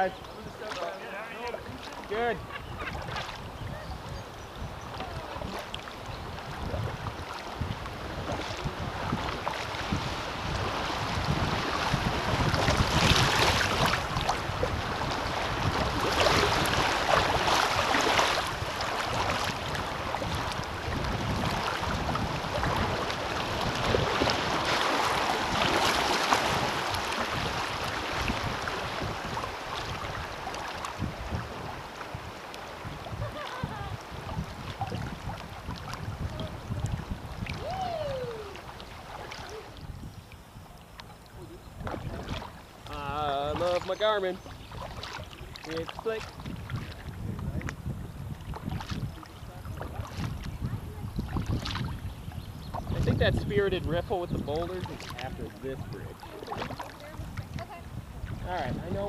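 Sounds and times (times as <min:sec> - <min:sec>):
river water splashing: 0:00.0 - 0:59.0
wind rumbling on microphone: 0:00.0 - 0:59.0.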